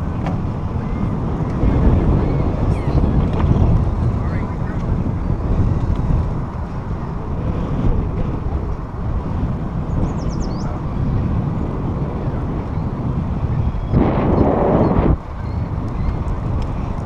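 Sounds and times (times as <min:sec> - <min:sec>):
bicycle riding noise: 0:00.0 - 0:17.0
wind rushing over microphone: 0:00.0 - 0:17.0.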